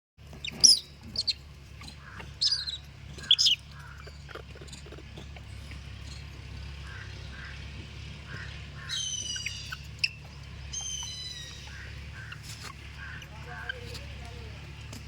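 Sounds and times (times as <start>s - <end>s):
steady low hum: 0.2s - 15.0s
shrill animal calls: 0.4s - 14.4s.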